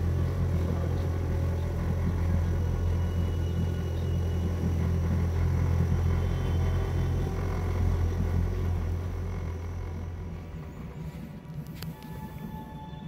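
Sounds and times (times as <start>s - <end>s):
outboard motor humming: 0.0s - 11.6s.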